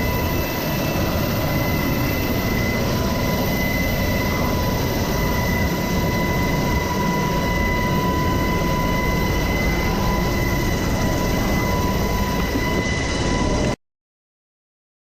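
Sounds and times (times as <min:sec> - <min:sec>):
helicopter rotor and engine: 0:00.0 - 0:13.8
high turbine whine: 0:00.0 - 0:13.8.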